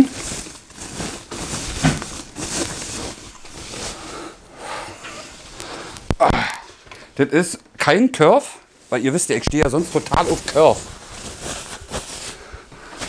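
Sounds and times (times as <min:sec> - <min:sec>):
plastic wrap rustling and crinkling: 0:00.0 - 0:04.4, 0:05.0 - 0:06.9, 0:08.8 - 0:13.0.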